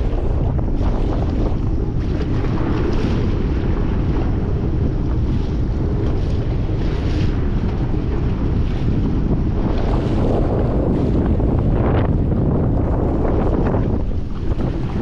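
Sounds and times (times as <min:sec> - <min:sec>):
water moving past hull: 0:00.0 - 0:15.0
wind buffeting microphone: 0:00.0 - 0:15.0.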